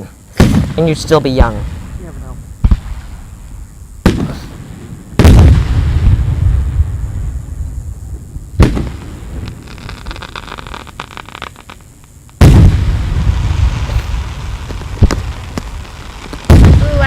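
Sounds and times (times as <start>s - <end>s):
fireworks crackling: 0.0s - 17.0s
fireworks sharp bangs: 0.3s - 17.0s
deep firework boom: 0.4s - 11.2s, 12.4s - 17.0s.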